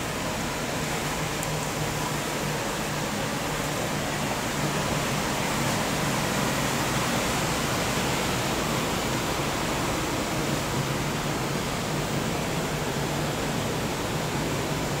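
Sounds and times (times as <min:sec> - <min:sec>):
ventilation fans rushing: 0:00.0 - 0:15.0.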